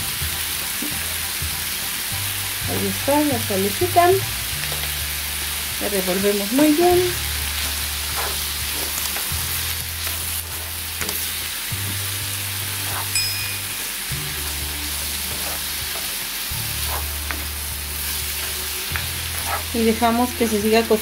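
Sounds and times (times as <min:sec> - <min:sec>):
vegetables sizzling in a frying pan: 0:00.0 - 0:21.0.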